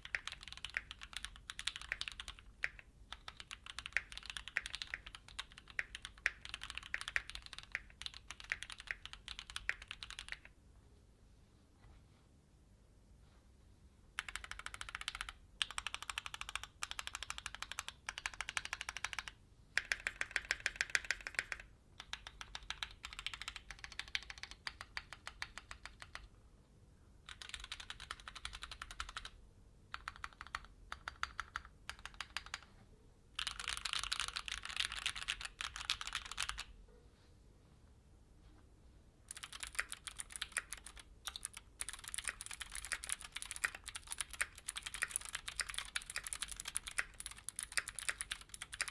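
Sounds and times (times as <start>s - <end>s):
mechanical keyboard typing: 0.0s - 10.5s, 14.2s - 26.3s, 27.3s - 32.7s, 33.4s - 36.7s, 39.3s - 48.9s.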